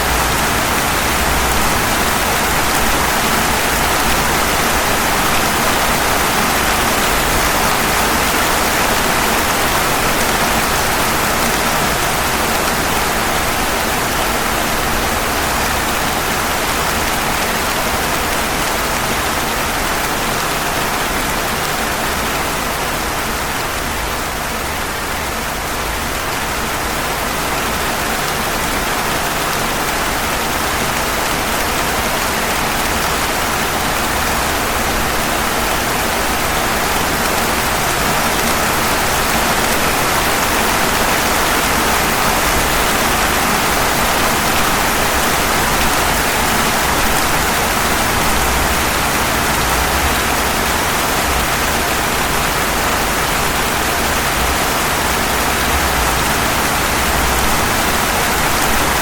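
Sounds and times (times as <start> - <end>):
rain falling on pavement: 0.0 - 59.0.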